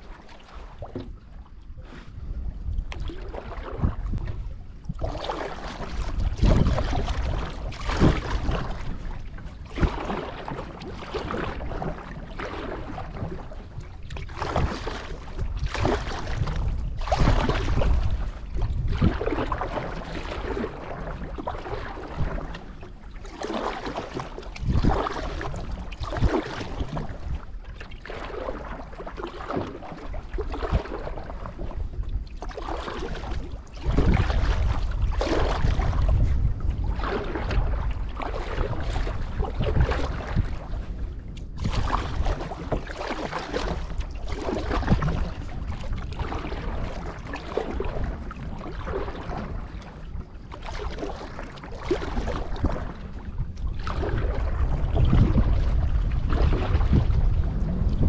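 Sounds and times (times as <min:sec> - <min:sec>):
paddle strokes in water: 0:00.0 - 0:58.0
wind on microphone: 0:00.0 - 0:58.0.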